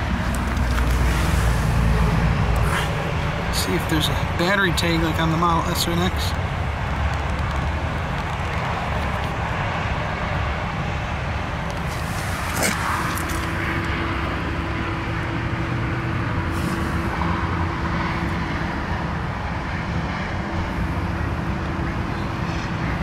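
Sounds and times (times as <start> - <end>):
low rumble of traffic: 0.0 - 23.0
steady hum: 0.0 - 23.0.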